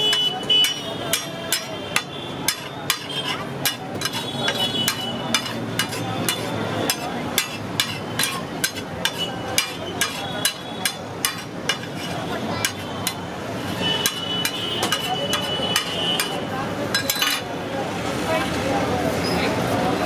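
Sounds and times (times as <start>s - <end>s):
metal spatula clacking on griddle: 0.0s - 17.5s.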